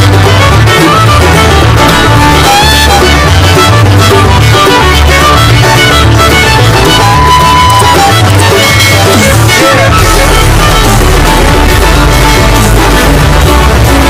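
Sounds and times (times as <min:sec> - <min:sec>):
background music with bass line: 0:00.0 - 0:14.0.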